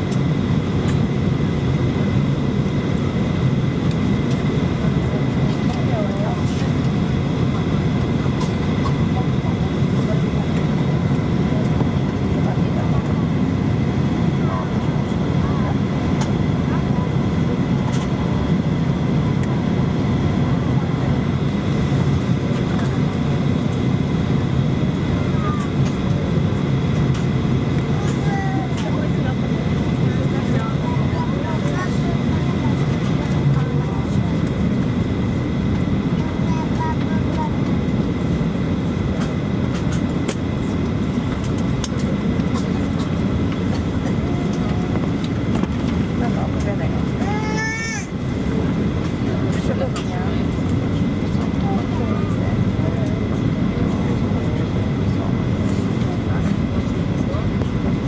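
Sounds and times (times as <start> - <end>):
high engine whine: 0.0 - 58.0
jet engines low rumble: 0.0 - 58.0.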